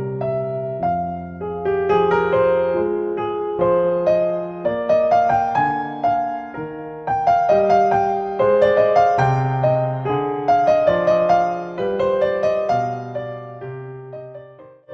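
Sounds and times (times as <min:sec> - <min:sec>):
solo piano piece: 0:00.0 - 0:14.9.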